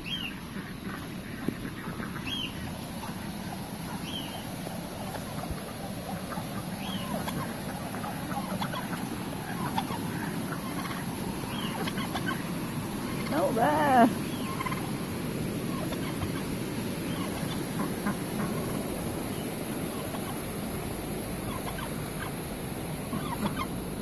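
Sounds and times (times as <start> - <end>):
faint turkey calls: 0.0 - 20.5, 21.3 - 23.8
turkey gobbling: 0.1 - 13.4, 14.2 - 20.6, 21.4 - 22.4, 23.0 - 23.8.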